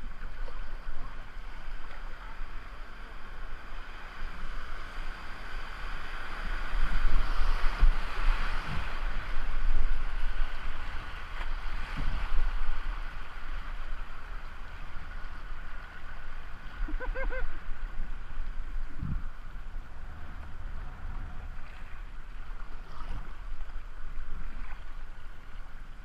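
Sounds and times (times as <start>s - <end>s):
river water rushing and splashing: 0.0s - 26.0s
wind buffeting microphone: 4.5s - 26.0s.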